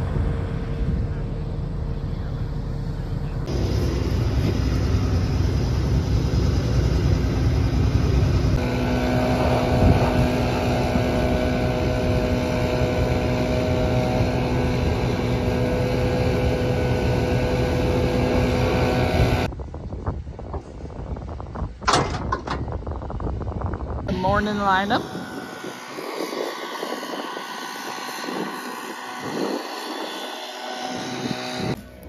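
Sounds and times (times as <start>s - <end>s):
wind on microphone: 0.0s - 1.7s, 3.4s - 32.0s
diesel machinery deep rumble: 0.0s - 32.0s
engine hum with faint whine: 0.0s - 32.0s.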